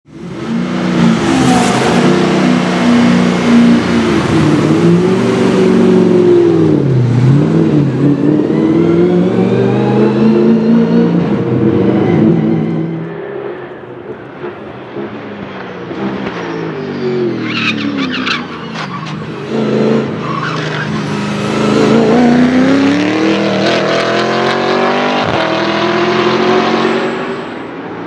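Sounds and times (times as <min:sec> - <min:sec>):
race car engine revving: 0:00.1 - 0:27.4.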